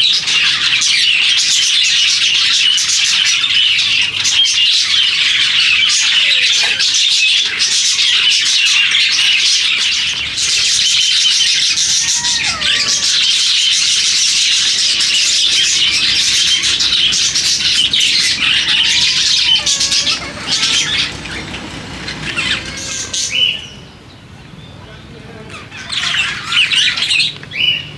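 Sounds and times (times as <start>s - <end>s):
parrots chirping and chattering: 0.0s - 27.9s.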